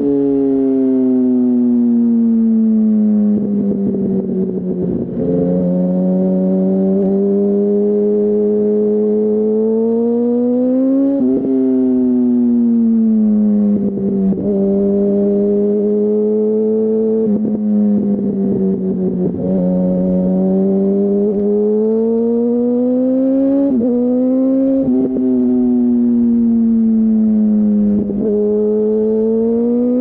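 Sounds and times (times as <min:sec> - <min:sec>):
motorcycle engine running: 0:01.6 - 0:10.2, 0:12.8 - 0:30.0.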